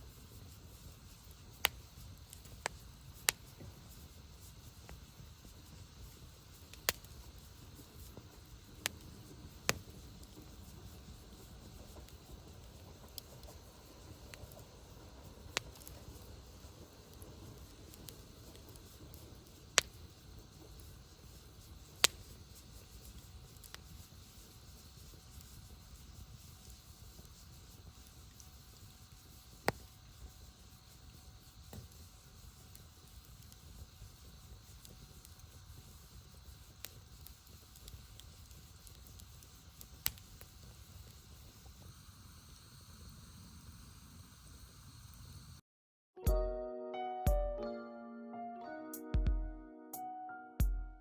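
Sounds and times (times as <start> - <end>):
burning wood popping: 0.0 - 42.4
low rush of flames: 0.0 - 45.6
wood fire crackling: 0.0 - 45.6.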